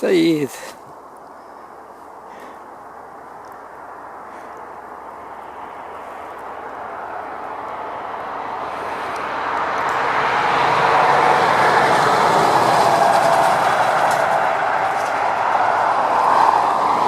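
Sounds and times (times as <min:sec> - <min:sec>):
passing vehicle: 0:02.8 - 0:17.0.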